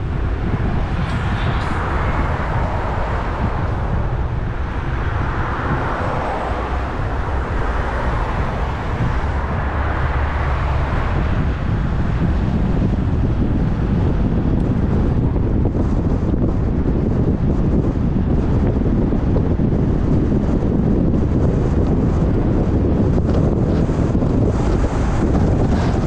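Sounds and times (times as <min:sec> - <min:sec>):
car road and wind noise: 0:00.0 - 0:26.0.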